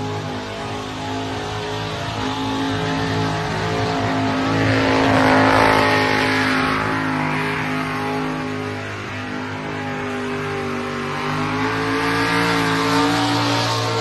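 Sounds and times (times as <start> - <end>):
car engine at high revs: 0.0 - 14.0
rushing tyre noise: 0.0 - 14.0.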